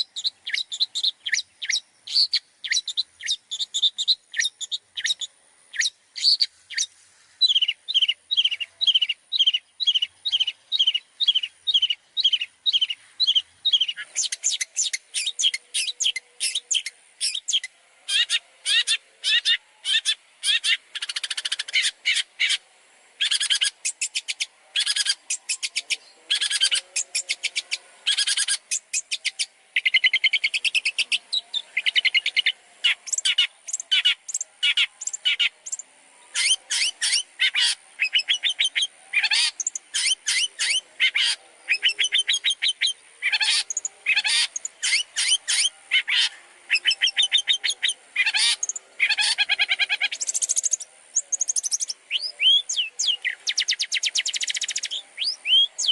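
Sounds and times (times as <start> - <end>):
shrike singing chattering song: 0.0 - 55.9.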